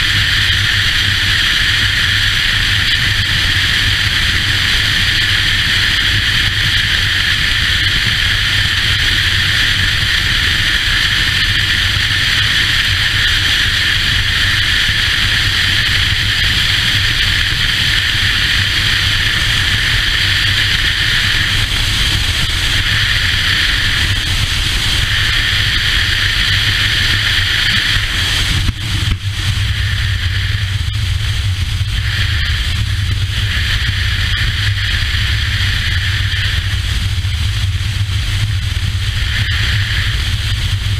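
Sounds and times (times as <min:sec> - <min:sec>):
motorcycle engine drone: 0:00.0 - 0:40.9
wind rushing over microphone: 0:00.0 - 0:40.9.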